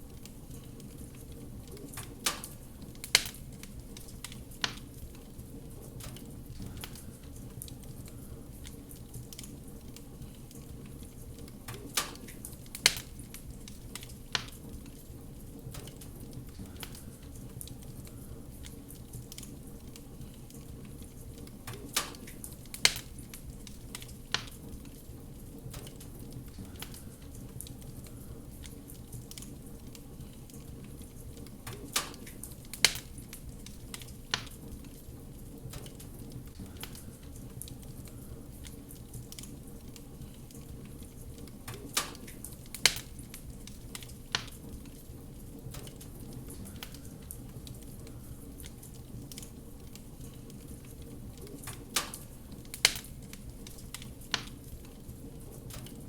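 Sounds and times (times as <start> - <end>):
low rumble of fire: 0.0 - 56.0
sharp fire pops: 0.0 - 56.0
wood fire crackling: 0.0 - 56.0.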